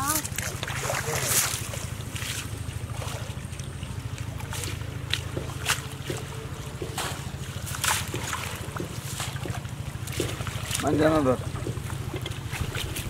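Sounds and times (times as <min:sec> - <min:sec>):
wet net splashing and rustling: 0:00.0 - 0:13.0.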